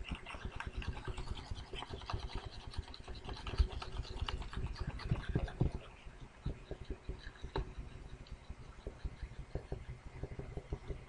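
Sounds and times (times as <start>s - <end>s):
stylus scratching on tablet: 0.0s - 11.0s.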